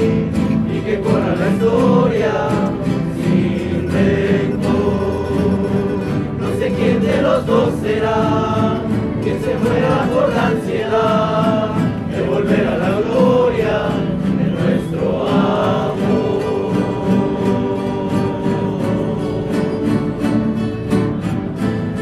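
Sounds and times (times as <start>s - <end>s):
guitars accompanying: 0.0s - 22.0s
voices singing in chorus: 0.0s - 22.0s.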